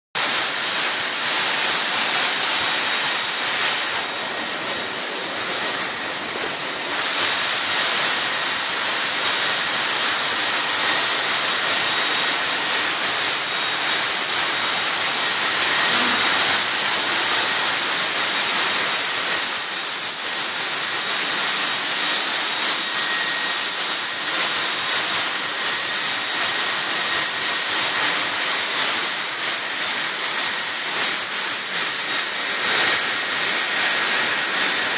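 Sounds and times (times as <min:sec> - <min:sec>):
thin high whine: 0:00.2 - 0:34.9.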